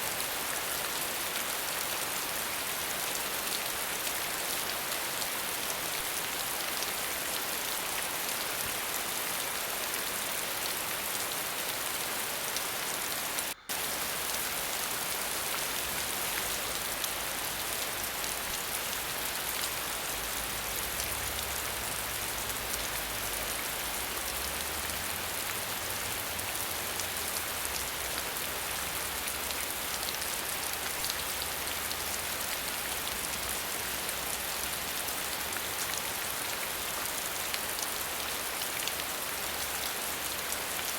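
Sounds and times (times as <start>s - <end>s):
waterfall hiss: 0.0s - 40.9s.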